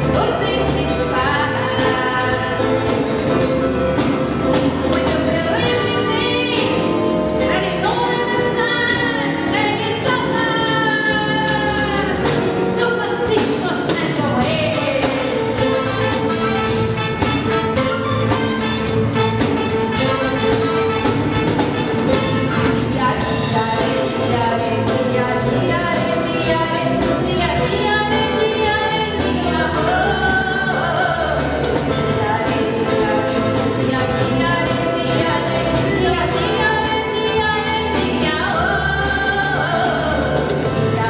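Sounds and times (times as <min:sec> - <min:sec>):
woman singing: 0:00.0 - 0:16.8, 0:21.5 - 0:41.0
live band playing: 0:00.0 - 0:41.0.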